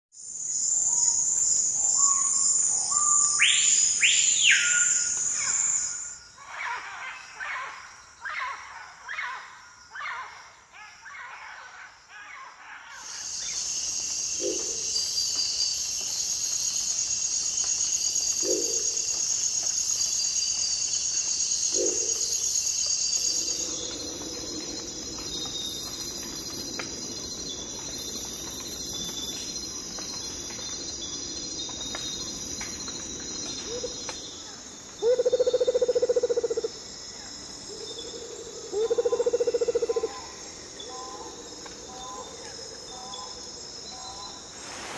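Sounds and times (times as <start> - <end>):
insects chirping chorus: 0.2 - 44.9.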